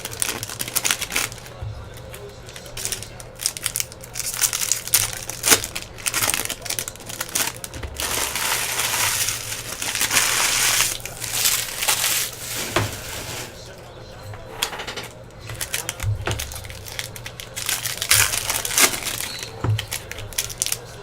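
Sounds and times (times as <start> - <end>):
wrappers crinkling and tearing: 0.0 - 13.7, 15.5 - 21.0.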